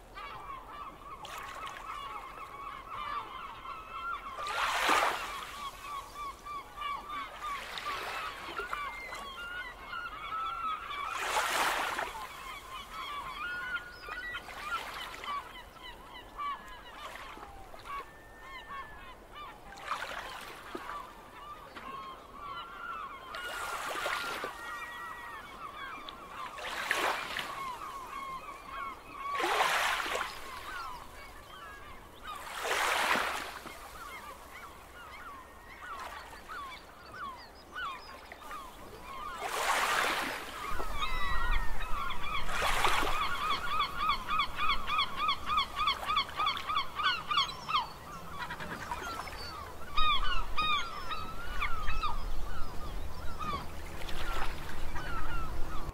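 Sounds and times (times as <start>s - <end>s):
birds goose-like calls: 0.1s - 55.9s.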